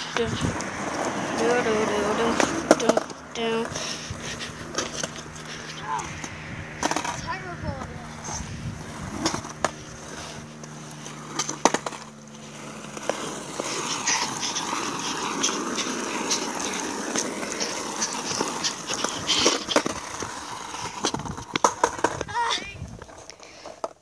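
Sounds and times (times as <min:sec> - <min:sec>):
skateboard wheels rolling: 0:00.0 - 0:24.0
skateboard clacks: 0:00.4 - 0:07.3, 0:08.9 - 0:24.0.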